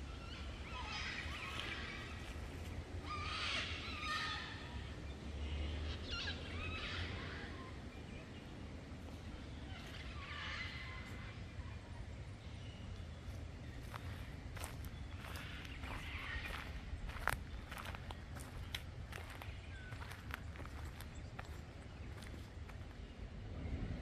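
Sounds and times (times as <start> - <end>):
birds warbling: 0.0 - 23.8
low steady rumble: 0.0 - 24.0.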